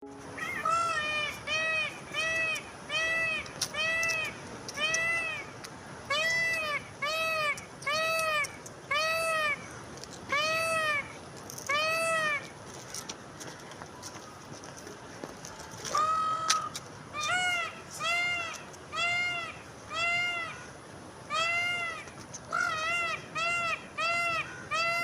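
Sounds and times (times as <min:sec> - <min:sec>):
peacock wailing calls: 0:00.3 - 0:05.5, 0:06.1 - 0:09.7, 0:10.3 - 0:12.5, 0:15.9 - 0:25.0.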